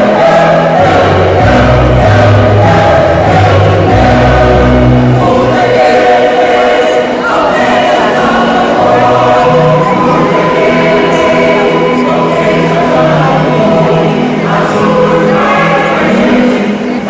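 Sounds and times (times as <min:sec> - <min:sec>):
choir singing chords: 0:00.0 - 0:17.0.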